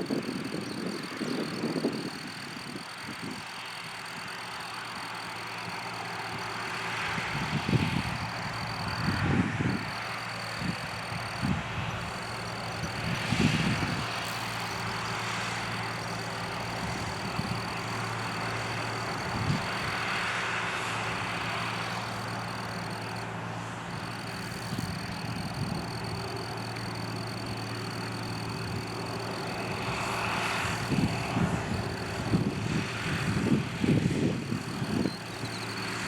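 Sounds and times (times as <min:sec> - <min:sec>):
thin high whine: 0:00.0 - 0:36.0
tractor diesel engine running: 0:00.0 - 0:36.0.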